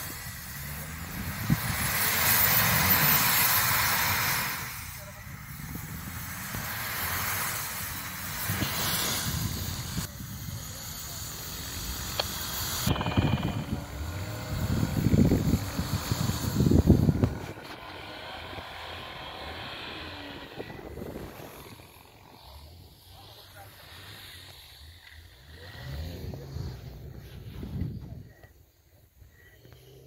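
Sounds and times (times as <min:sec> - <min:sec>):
loud rushing hiss: 0:00.0 - 0:24.8
diesel engine labouring: 0:00.0 - 0:28.5.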